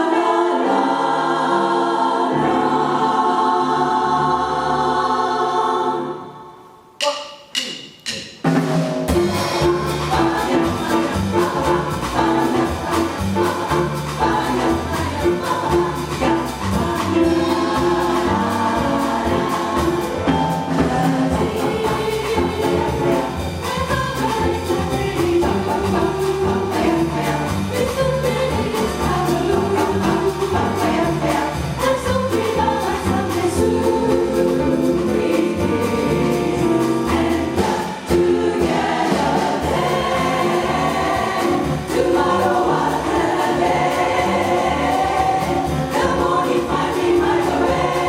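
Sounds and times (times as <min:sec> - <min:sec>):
jazz chorus singing: 0:00.0 - 0:07.2, 0:08.0 - 0:48.0
piano: 0:00.0 - 0:48.0
drums: 0:06.9 - 0:48.0
bass: 0:08.0 - 0:48.0.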